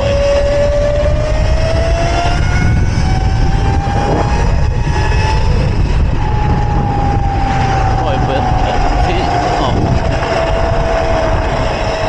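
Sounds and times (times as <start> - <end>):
electric motor whining: 0.0 - 12.0
wind rumble on microphone: 0.0 - 12.0.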